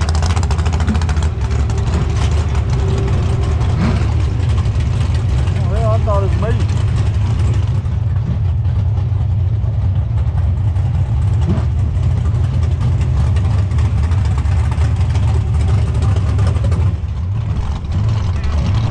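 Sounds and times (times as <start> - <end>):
race car engine idling: 0.0 - 18.9.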